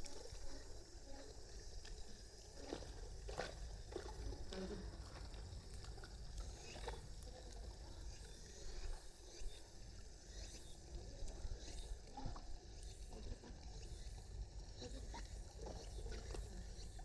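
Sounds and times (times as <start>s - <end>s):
pool water splashing and lapping: 0.0s - 17.0s.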